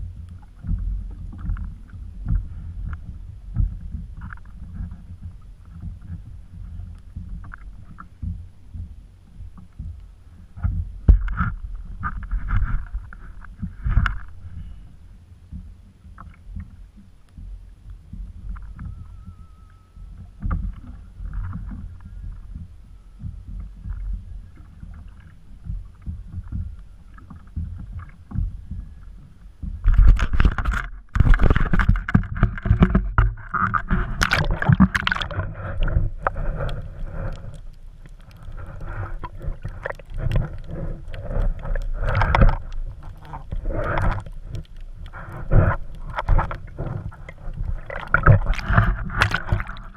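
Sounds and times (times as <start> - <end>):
churning sloshing water underwater: 0.0 - 49.9
wind and water rumble: 0.0 - 49.9.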